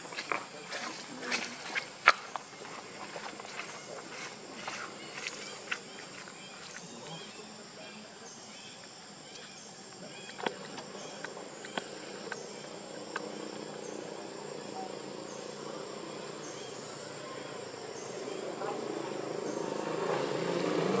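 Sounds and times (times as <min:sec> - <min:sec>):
insect chirp: 0:00.0 - 0:21.0.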